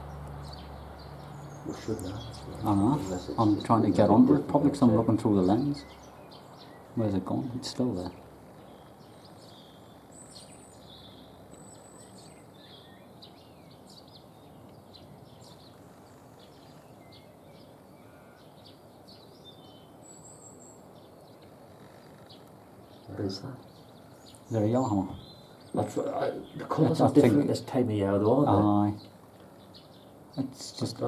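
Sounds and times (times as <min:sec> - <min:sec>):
faint background hiss: 0:00.0 - 0:31.0
songbirds chirping: 0:00.0 - 0:31.0.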